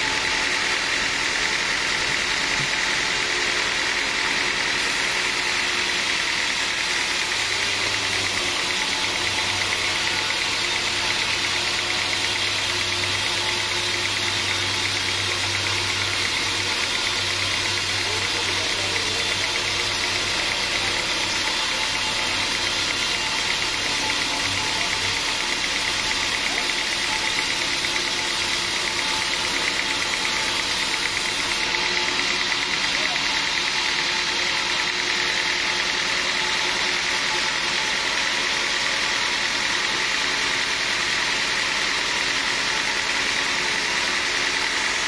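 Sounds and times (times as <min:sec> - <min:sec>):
sawmill machinery running: 0:00.0 - 0:45.0.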